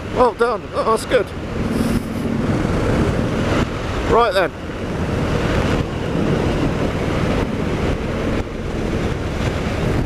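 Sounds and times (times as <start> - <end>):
wind buffeting on microphone: 0.0 - 10.0.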